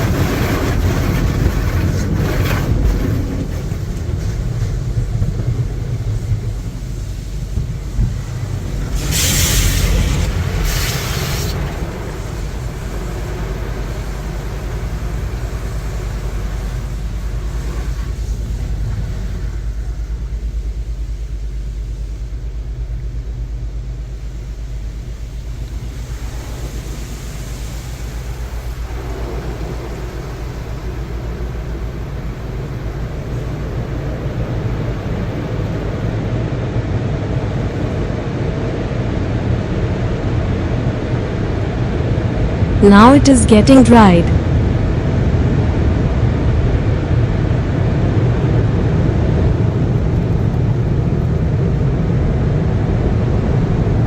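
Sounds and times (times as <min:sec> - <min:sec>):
car wash machinery rumbling: 0:00.0 - 0:42.8, 0:44.5 - 0:54.0.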